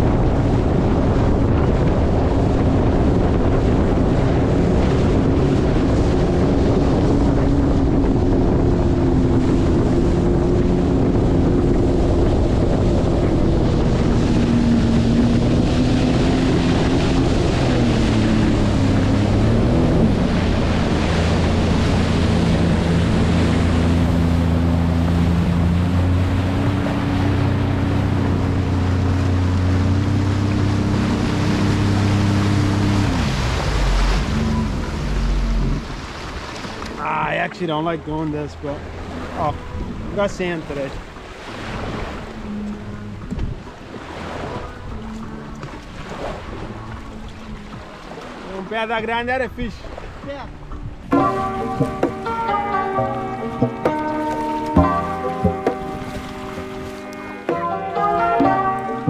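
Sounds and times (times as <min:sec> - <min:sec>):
wind buffeting microphone: 0:00.0 - 0:57.5
personal watercraft engine running: 0:00.0 - 0:59.0
water rushing: 0:00.0 - 0:59.0.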